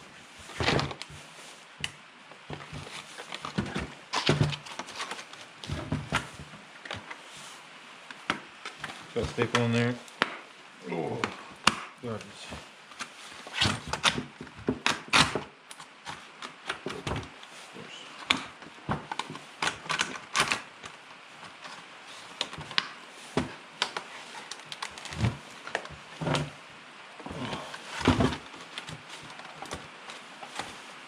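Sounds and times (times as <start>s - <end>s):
packaging and parts handled: 0.4s - 7.5s, 12.3s - 26.6s, 27.3s - 31.0s.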